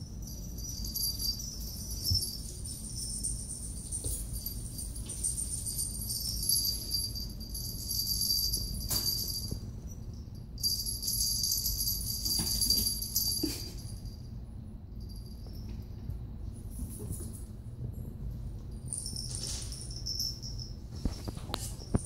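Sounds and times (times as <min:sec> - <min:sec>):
small collar bells jingling: 0:00.0 - 0:17.5, 0:18.4 - 0:22.0.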